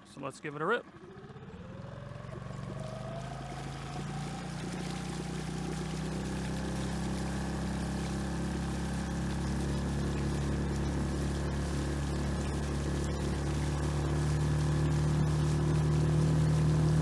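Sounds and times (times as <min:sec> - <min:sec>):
outboard motor running: 0:00.0 - 0:17.0
water rushing along hull: 0:01.6 - 0:17.0.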